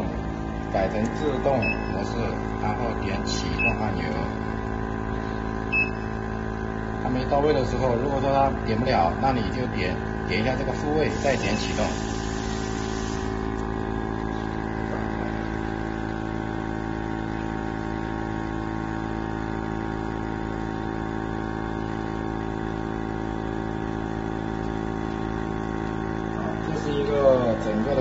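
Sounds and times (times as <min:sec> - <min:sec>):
machine mechanical hum: 0:00.0 - 0:28.0.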